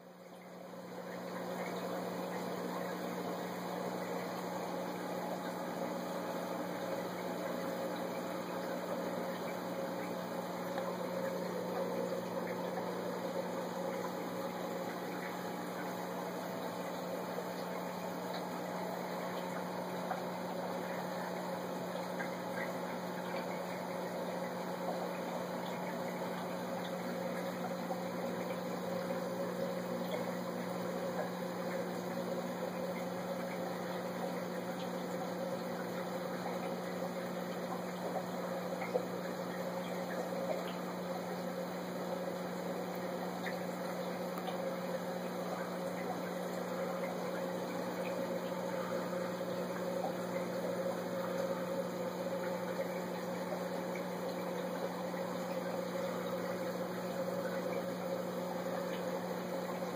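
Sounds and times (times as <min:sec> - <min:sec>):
aquarium pump humming: 0:00.0 - 0:59.9.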